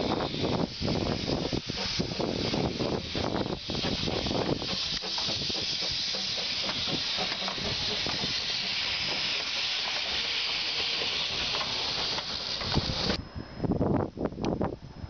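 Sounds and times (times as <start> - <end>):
steam hissing from locomotives: 0.0 - 13.2.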